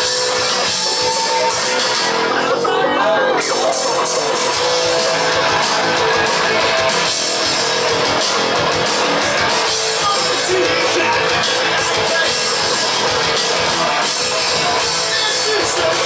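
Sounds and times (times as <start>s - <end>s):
drums: 0.0s - 16.0s
electric guitar: 0.0s - 16.0s
rock band playing live: 0.0s - 16.0s.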